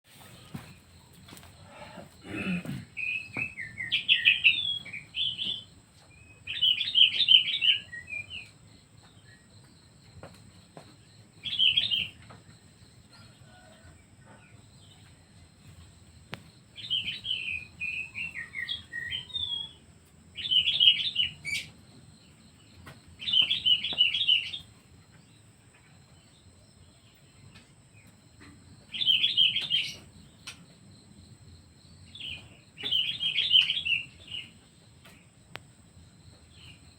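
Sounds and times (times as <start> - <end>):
songbird chirping trills: 0.1 - 36.9.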